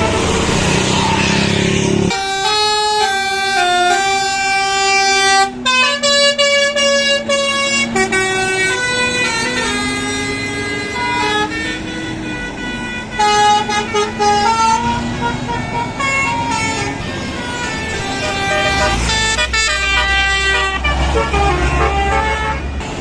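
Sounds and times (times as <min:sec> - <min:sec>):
bus passing: 0:00.0 - 0:23.0
musical air horn playing tune: 0:02.1 - 0:22.9.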